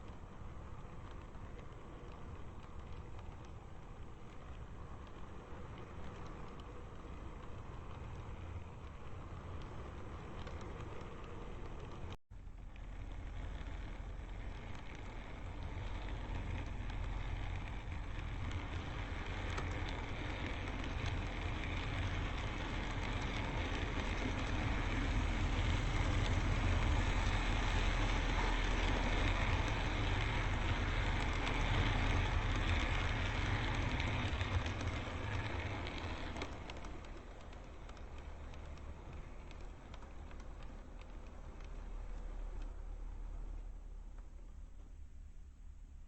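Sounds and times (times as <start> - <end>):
model train motor hum: 0.0 - 44.4
train wheel rumble: 0.0 - 46.0.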